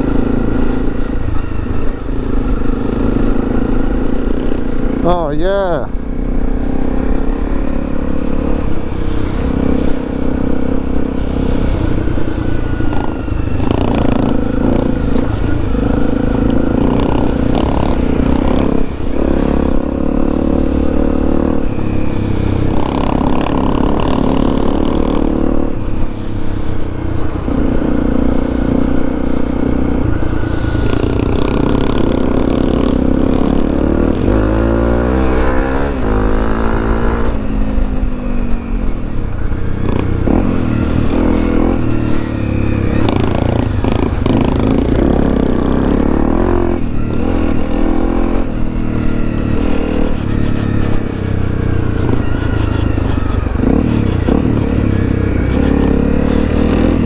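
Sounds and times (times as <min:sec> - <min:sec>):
motorcycle engine changing pitch: 0:00.0 - 0:57.0.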